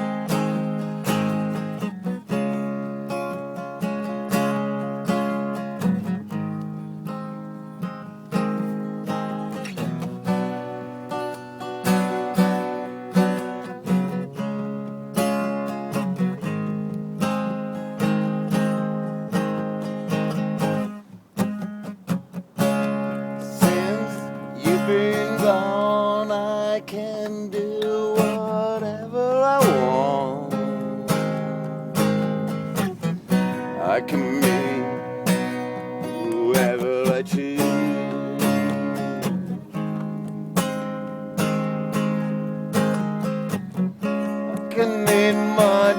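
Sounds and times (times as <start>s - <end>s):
acoustic guitar strumming chords: 0.0s - 45.9s.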